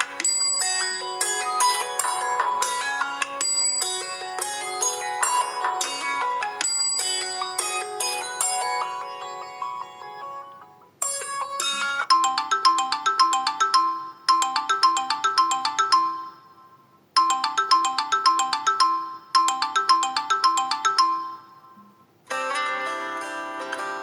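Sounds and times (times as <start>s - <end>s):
phone ringtone melody: 0.0s - 21.8s.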